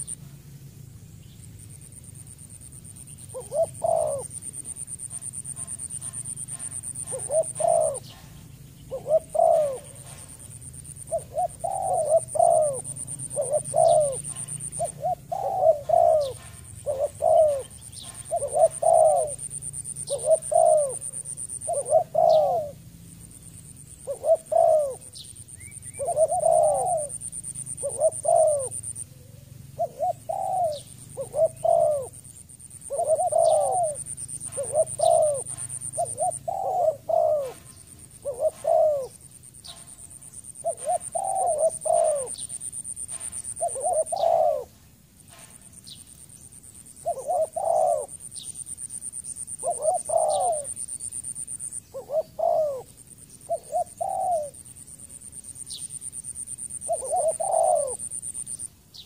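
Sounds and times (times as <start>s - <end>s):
dove cooing: 0.0s - 0.3s, 2.5s - 44.9s, 46.6s - 58.7s.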